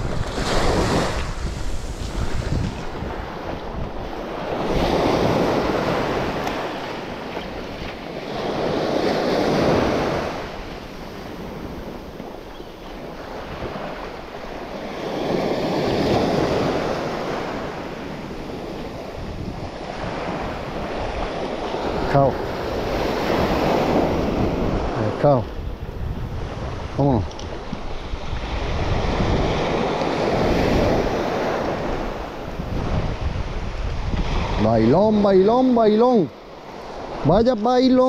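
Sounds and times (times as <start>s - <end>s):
surf breaking on beach: 0.0s - 38.0s
wind rumbling on microphone: 0.0s - 38.0s.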